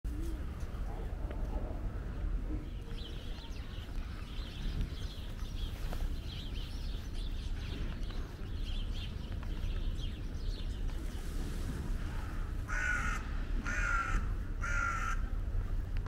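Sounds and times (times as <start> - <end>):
birds chirping: 0.1 - 15.2.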